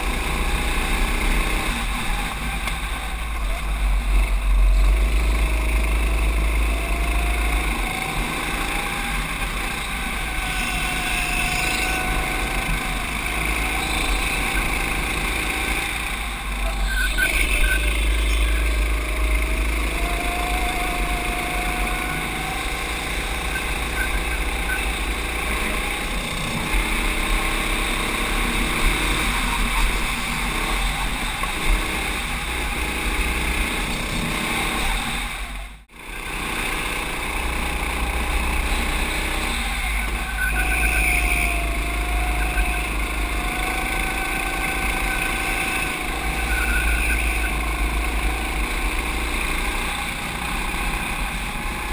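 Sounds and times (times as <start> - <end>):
go-kart engine accelerating: 0.0 - 51.9.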